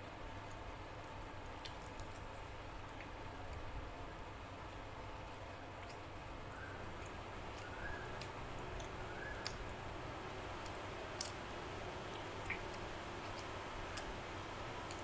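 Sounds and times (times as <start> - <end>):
person chewing food: 0.4 - 6.2, 6.8 - 15.0.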